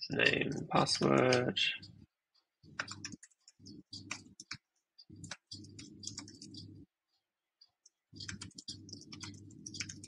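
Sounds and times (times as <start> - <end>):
keyboard typing: 0.1 - 10.0.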